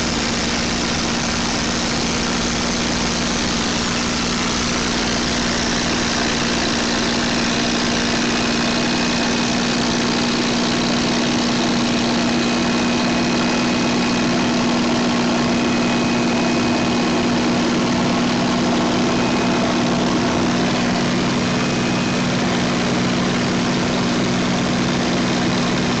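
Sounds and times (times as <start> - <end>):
piston aircraft engine drone: 0.0 - 26.0.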